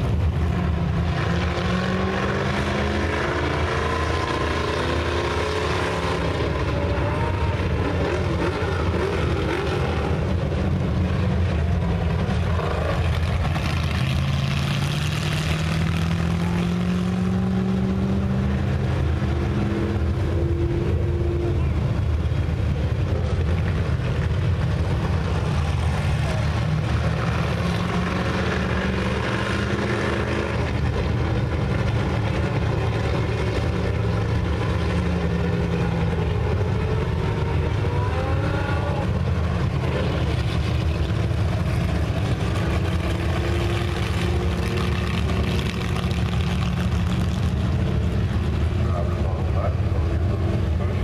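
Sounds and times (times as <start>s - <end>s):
race car engines droning: 0.0s - 51.0s.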